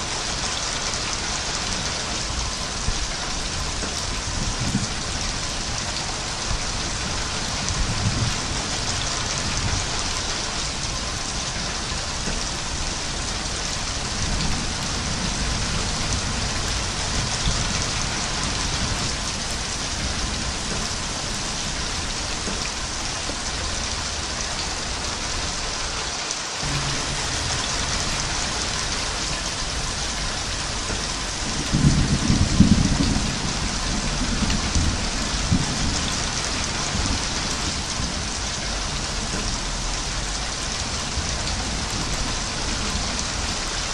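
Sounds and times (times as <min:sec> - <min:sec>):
heavy rain hissing: 0:00.0 - 0:43.9
thunder rolling: 0:03.6 - 0:24.3, 0:26.6 - 0:43.7.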